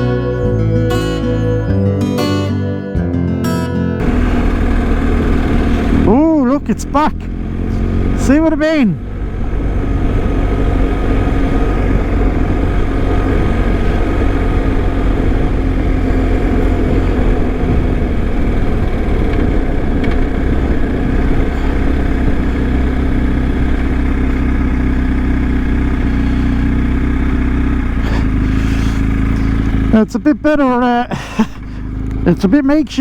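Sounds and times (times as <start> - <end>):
motorcycle engine running: 4.0 - 33.0
wind and road noise: 4.0 - 33.0.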